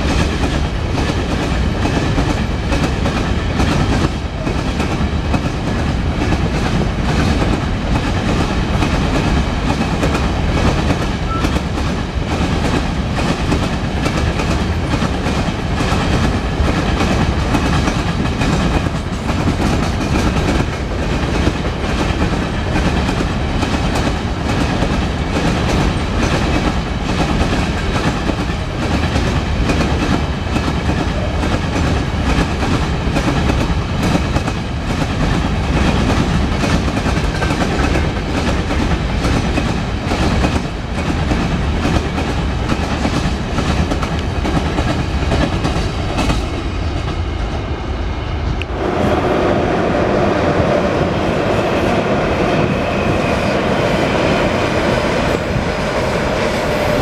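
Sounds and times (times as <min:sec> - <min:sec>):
freight train wheels clattering: 0:00.0 - 0:47.7.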